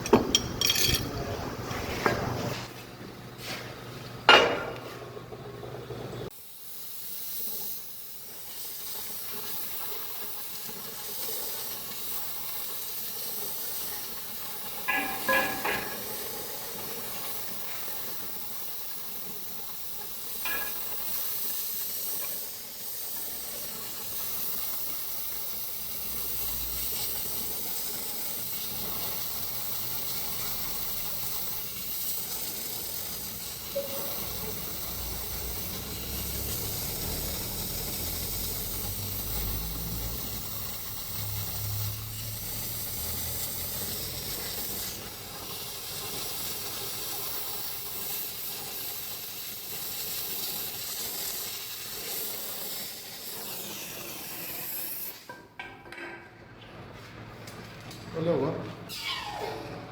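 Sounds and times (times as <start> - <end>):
metal lathe hissing: 6.3 - 55.3.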